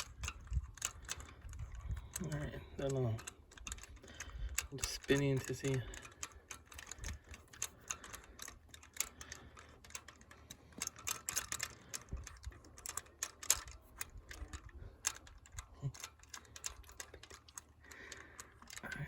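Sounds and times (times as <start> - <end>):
hand ratchet clicking: 0.0 - 19.0.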